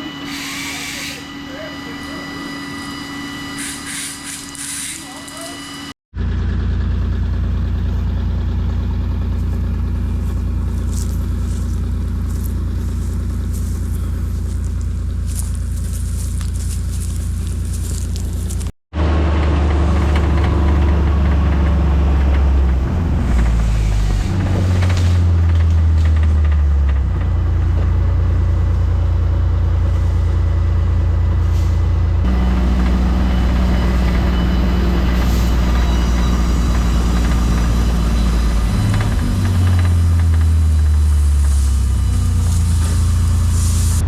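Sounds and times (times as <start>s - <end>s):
diesel truck engine rumbling: 6.1s - 44.0s.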